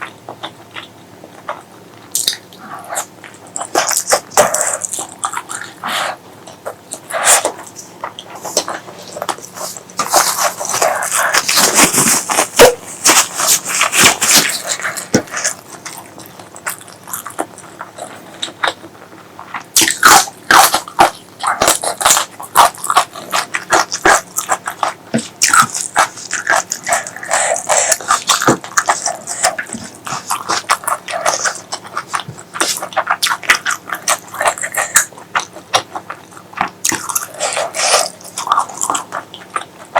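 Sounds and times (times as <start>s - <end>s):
chewing and wet lip-smacking: 0.0s - 39.9s.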